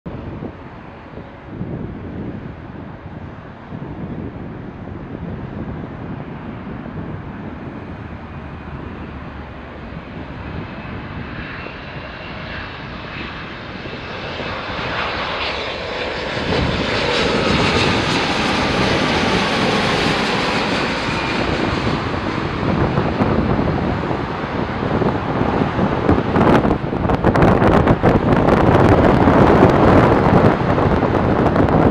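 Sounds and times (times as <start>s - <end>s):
jet engines of landing airliner: 0.1s - 31.9s.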